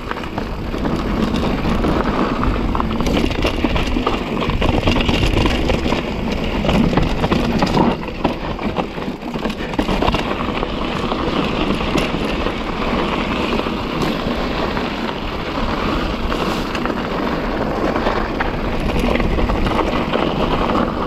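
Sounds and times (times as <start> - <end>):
bike tyres rumbling on dirt: 0.0 - 21.0
wind on microphone: 0.0 - 21.0.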